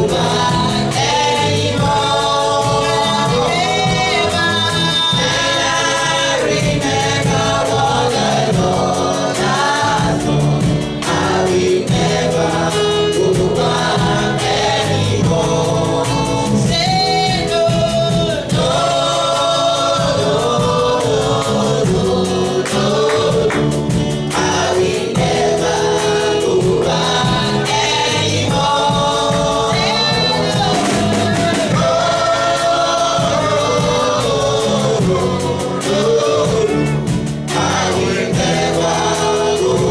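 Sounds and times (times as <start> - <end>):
choir singing: 0.0 - 39.9
instrumental backing: 0.0 - 39.9.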